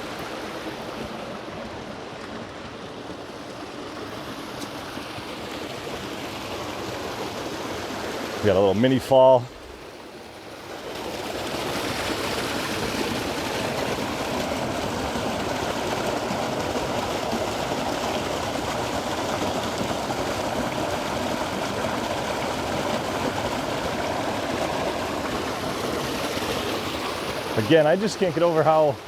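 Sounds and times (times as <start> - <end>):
creek waterfall splashing: 0.0 - 29.0.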